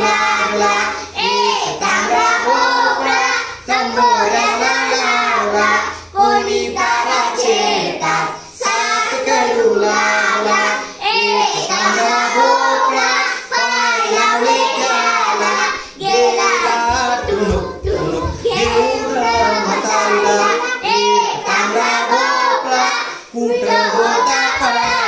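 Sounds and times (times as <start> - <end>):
children singing in unison: 0.0 - 25.0.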